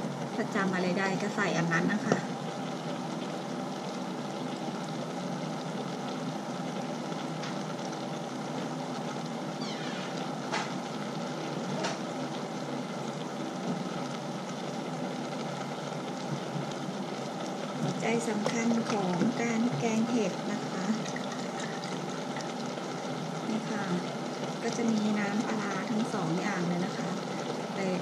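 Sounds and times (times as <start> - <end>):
pot boiling: 0.0 - 28.0.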